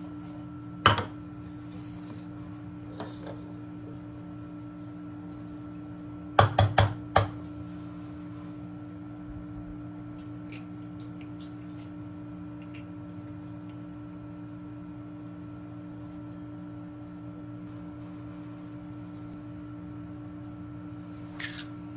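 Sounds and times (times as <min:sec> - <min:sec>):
steady electrical hum: 0:00.0 - 0:21.9.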